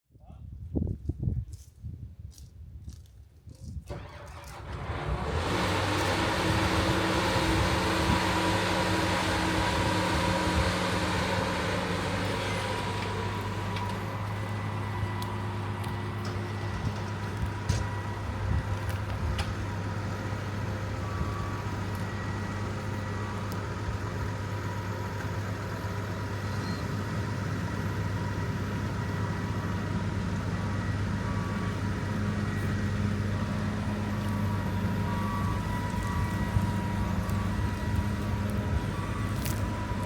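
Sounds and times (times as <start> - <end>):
combine harvester drone: 3.9 - 40.0.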